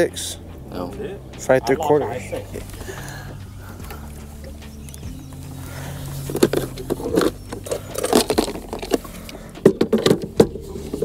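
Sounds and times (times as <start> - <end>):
gear knocking and rattling in boat: 0.0 - 11.0.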